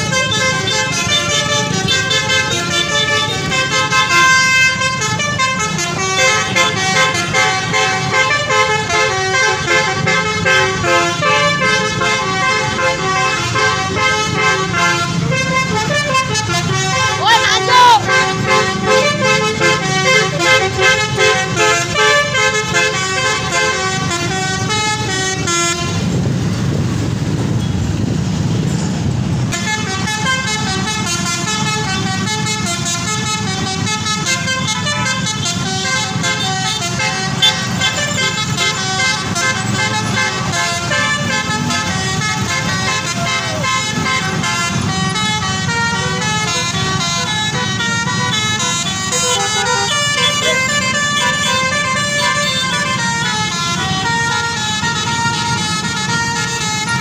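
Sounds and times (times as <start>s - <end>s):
multi-tone air horn: 0.0s - 26.1s, 29.5s - 57.0s.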